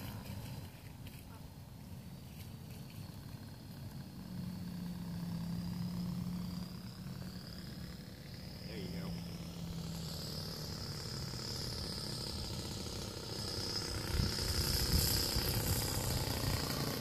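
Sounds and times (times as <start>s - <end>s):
model plane motor buzzing: 0.0s - 17.0s.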